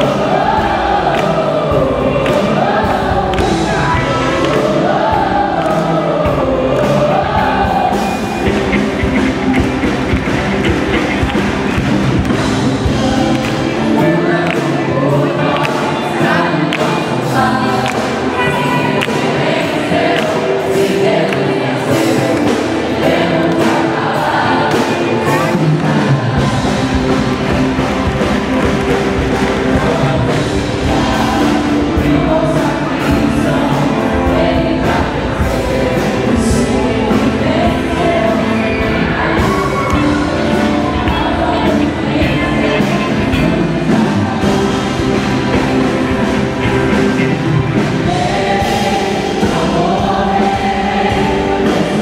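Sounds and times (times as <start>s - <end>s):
song with singing voices: 0.0s - 52.0s
steady drum beat: 0.0s - 52.0s.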